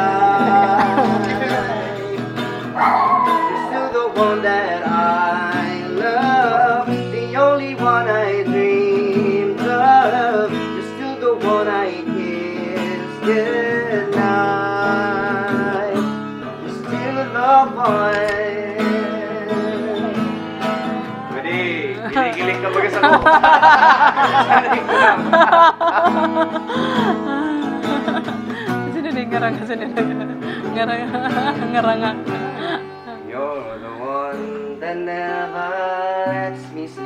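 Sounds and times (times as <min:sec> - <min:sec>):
acoustic guitar strumming: 0:00.0 - 0:37.0
man singing: 0:00.0 - 0:37.0.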